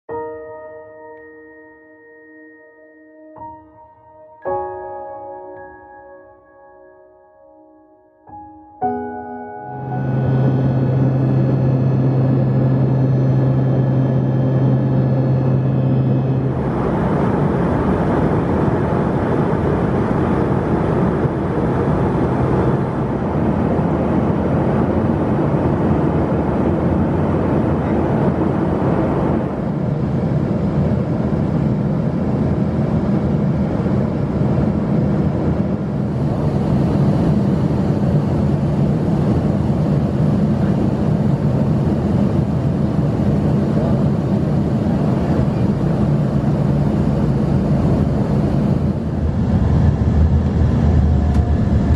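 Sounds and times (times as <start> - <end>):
air rushing along fuselage: 8.3 - 51.9
jet engines droning: 8.3 - 51.9.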